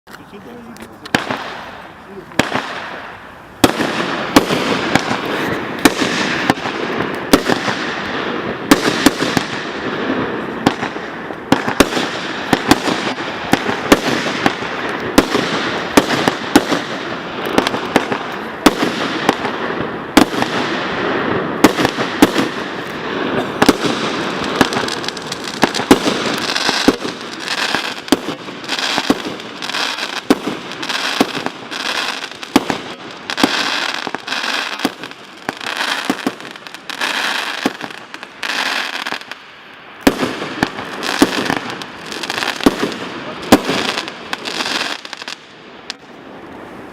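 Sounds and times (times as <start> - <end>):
dense firework crackling: 0.2 - 46.9
firework shots bursting: 1.0 - 39.4, 40.0 - 46.2.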